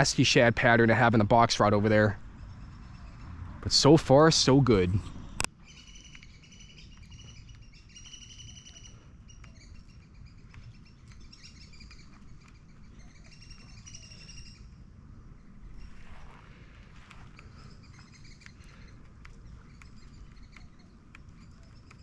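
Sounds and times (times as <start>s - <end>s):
birds chirping in trilled runs: 0.0s - 22.0s.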